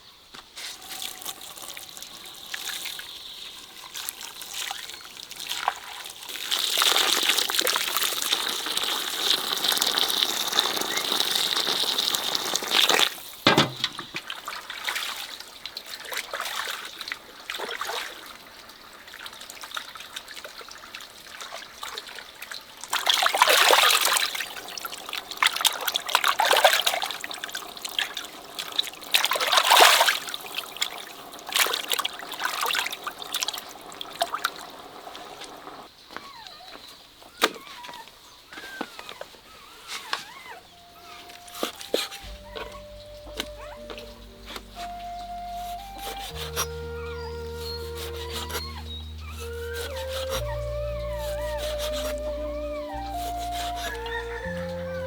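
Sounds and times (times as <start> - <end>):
water pouring and trickling: 0.6 - 35.9, 41.1 - 55.0
water splashes: 0.6 - 35.9, 41.2 - 55.0.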